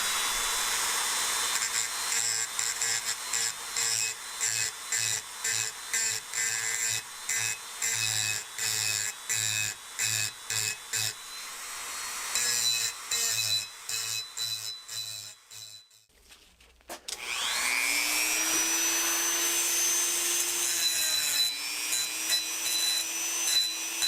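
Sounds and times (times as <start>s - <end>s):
hand tool back-and-forth strokes: 0.0s - 16.2s, 16.9s - 24.0s.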